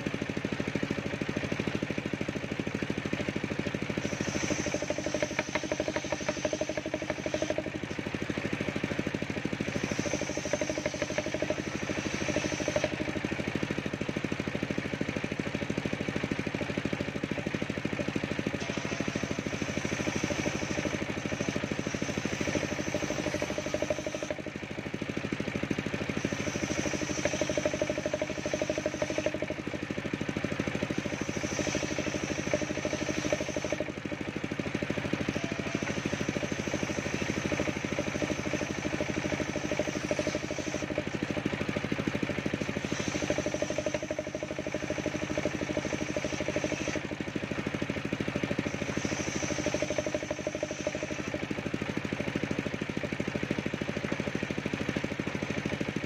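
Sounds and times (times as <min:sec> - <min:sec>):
circular saw running: 0:00.0 - 0:56.0
saw blade cutting wood whine: 0:00.0 - 0:56.0.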